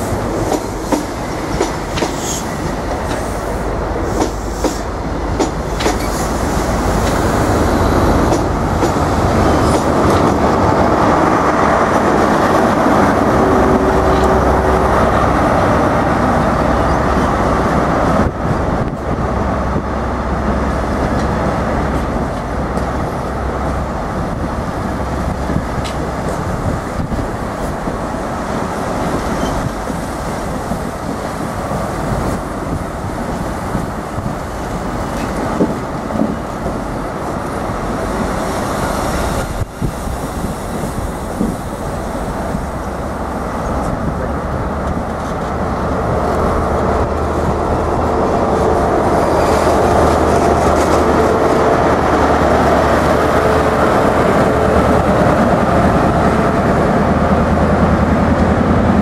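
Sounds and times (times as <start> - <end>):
diesel locomotive engine: 0.0 - 59.0
train coaches rumbling over rail joints: 0.0 - 59.0.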